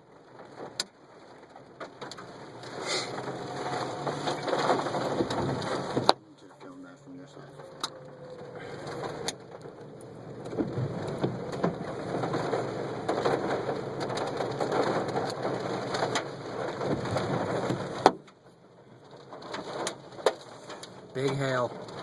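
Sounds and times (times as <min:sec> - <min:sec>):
hail pelting car roof: 0:00.0 - 0:22.0.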